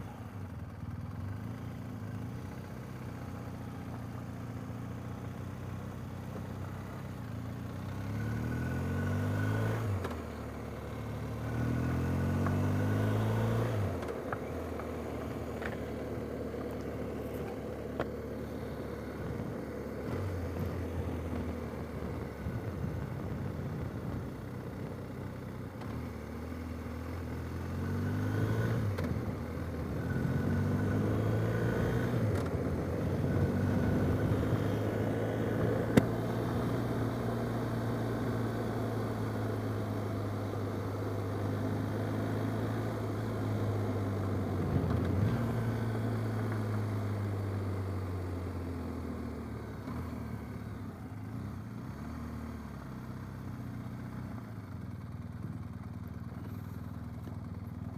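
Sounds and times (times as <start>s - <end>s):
motorcycle engine: 0.0s - 57.9s
wind and road noise: 0.0s - 57.9s.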